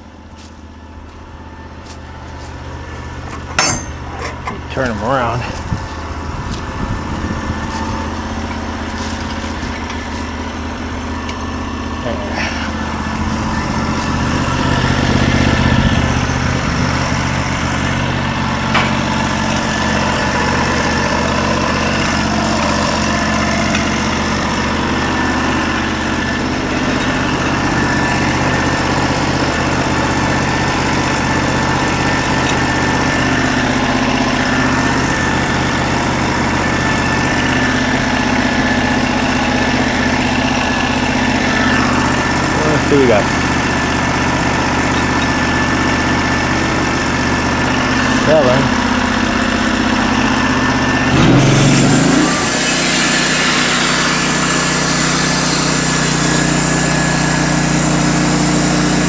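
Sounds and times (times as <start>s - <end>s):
sawmill engine idling: 0.0s - 59.0s.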